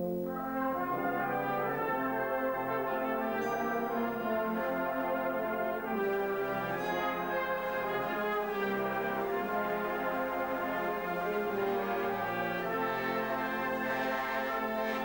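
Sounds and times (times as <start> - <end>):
brass band chords: 0.0 - 15.0
euphonium solo melody: 0.0 - 15.0.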